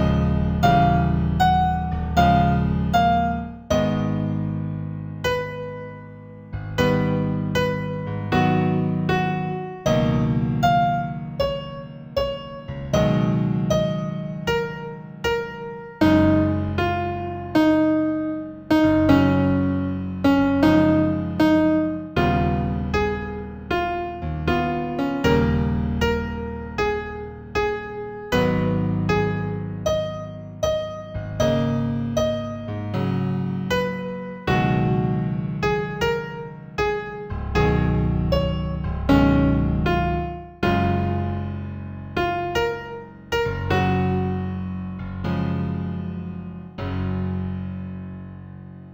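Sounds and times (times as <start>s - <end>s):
slow piano music: 0.0s - 48.9s.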